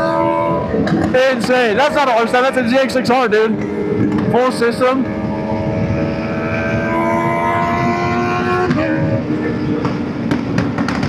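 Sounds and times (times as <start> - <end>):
motorcycle engines at high revs: 0.0 - 11.0
wind and road noise: 0.0 - 11.0.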